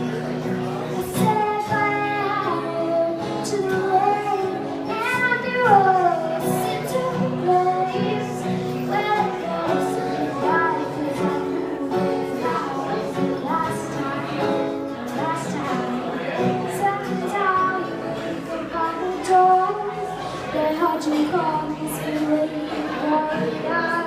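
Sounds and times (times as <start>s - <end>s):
woman singing pop ballad: 1.1s - 14.5s, 15.1s - 15.8s, 18.7s - 24.0s.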